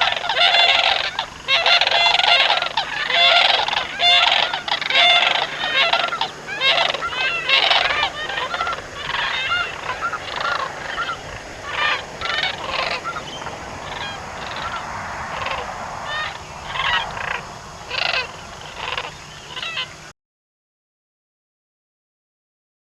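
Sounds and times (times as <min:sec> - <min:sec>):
flock of geese honking: 0:00.0 - 0:20.1.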